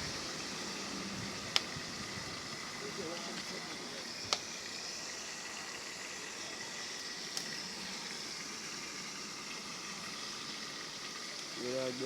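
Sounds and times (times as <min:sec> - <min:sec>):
dumplings sizzling in oil: 0:00.0 - 0:12.0.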